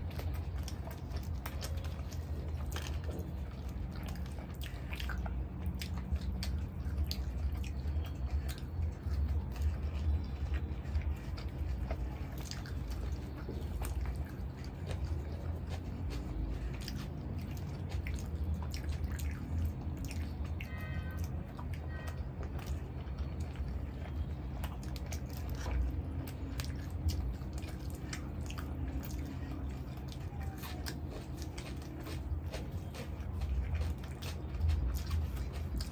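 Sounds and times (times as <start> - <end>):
lip smacks and mouth clicks: 0.0 - 35.9
steady low hum: 0.0 - 35.9
wet chewing: 0.0 - 35.9.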